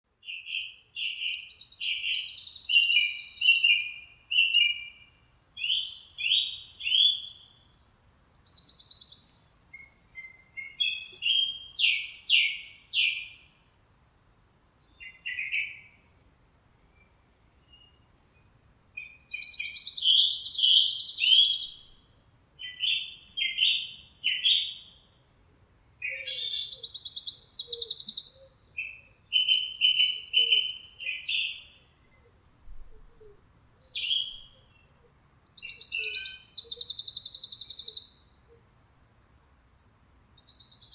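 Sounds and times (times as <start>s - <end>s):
songbirds chirping: 0.1s - 40.9s.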